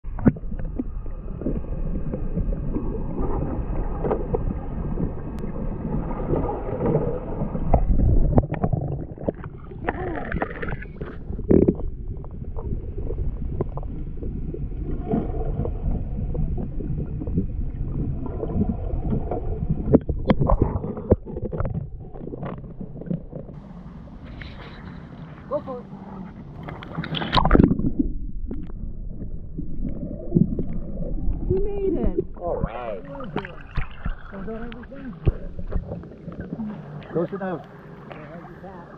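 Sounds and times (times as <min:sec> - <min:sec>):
underwater sloshing and gurgling: 0:00.0 - 0:38.9.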